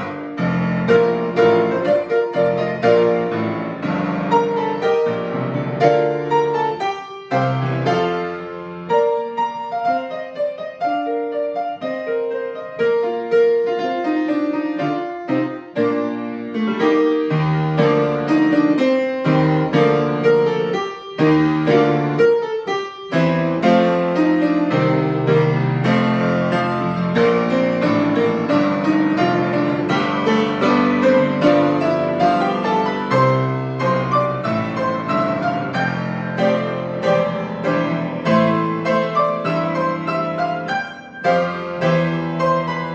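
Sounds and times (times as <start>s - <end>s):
solo piano hymn: 0.0s - 42.9s.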